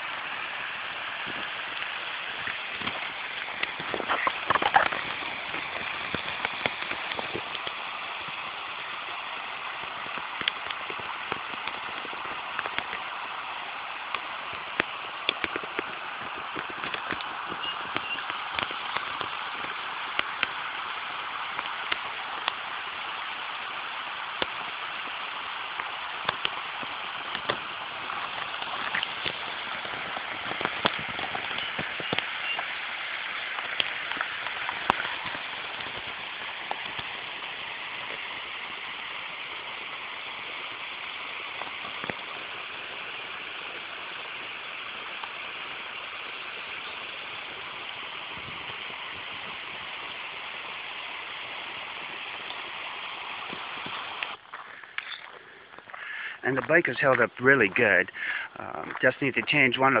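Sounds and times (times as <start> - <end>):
water spilling over dam: 0.0 - 60.0.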